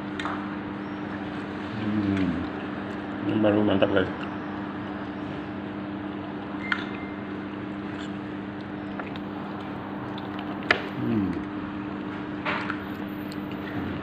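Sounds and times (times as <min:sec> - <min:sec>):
restaurant dining room hum: 0:00.0 - 0:14.0.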